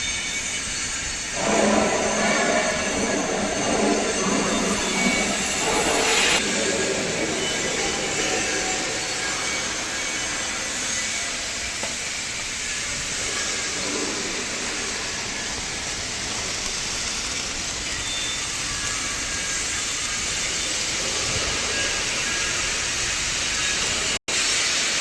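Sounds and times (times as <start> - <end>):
workshop machinery hissing: 0.0 - 25.0.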